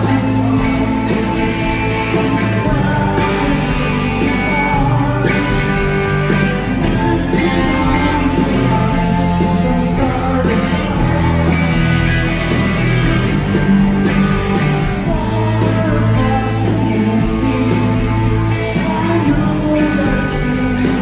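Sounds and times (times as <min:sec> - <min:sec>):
electric guitar: 0:00.0 - 0:21.0
keyboard: 0:00.0 - 0:21.0
live rock band playing: 0:00.0 - 0:21.0.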